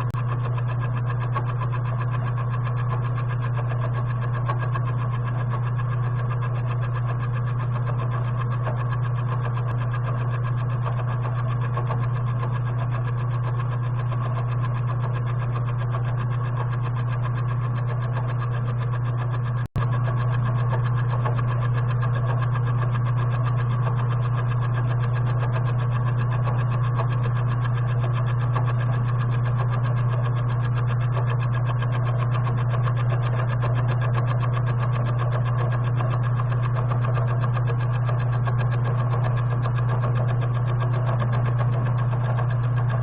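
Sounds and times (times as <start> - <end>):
machine tool motor humming: 0.0 - 43.0.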